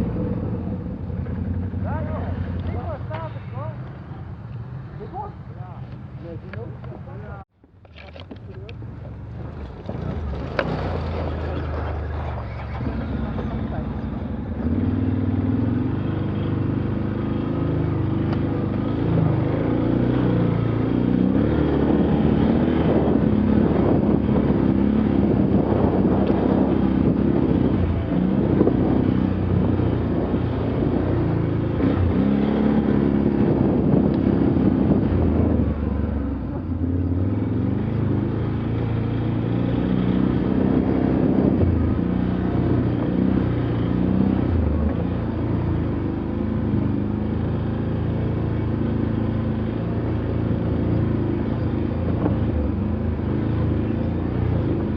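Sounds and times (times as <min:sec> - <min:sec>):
vehicle engine driving off-road: 0:00.0 - 0:54.9.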